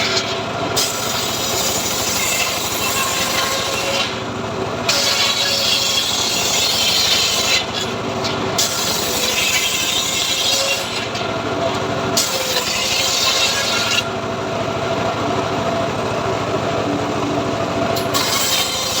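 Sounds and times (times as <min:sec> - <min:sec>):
high rasping sawing: 0:00.0 - 0:14.2, 0:17.7 - 0:19.0
machine engine running: 0:00.0 - 0:19.0.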